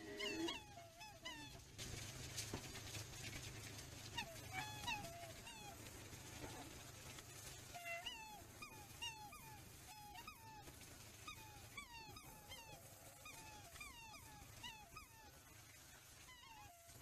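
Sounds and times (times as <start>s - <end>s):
swans calling: 0.0s - 1.7s, 4.0s - 17.0s.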